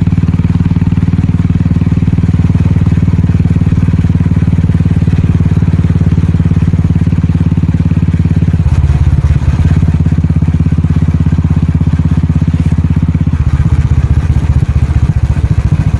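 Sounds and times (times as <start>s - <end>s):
motorcycle engine exhaust beat: 0.0s - 15.9s.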